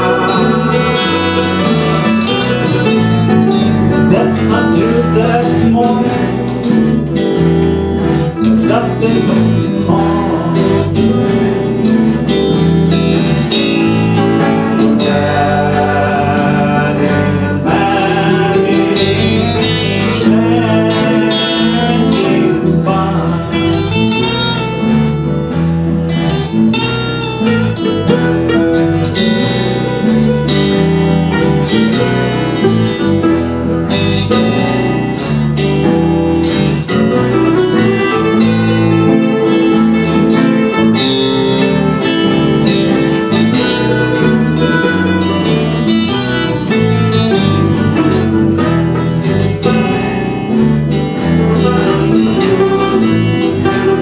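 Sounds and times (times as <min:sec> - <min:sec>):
acoustic string band playing: 0:00.0 - 0:54.0.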